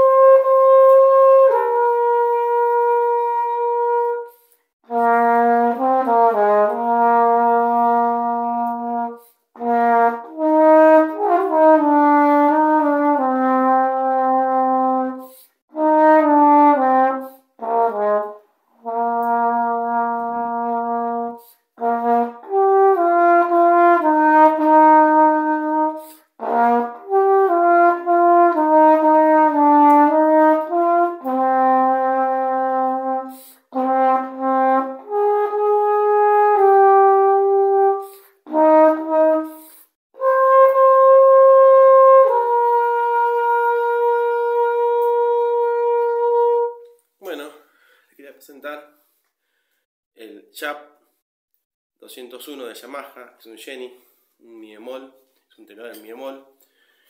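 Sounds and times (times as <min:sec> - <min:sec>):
tenor horn melody: 0:00.0 - 0:47.0.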